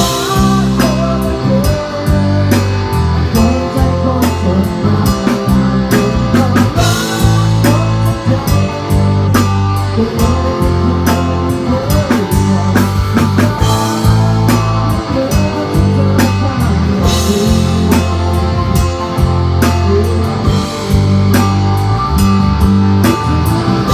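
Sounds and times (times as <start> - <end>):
deep sustained bass notes: 0.0 - 23.9
drum kit: 0.0 - 23.9
electric guitar: 0.0 - 23.9.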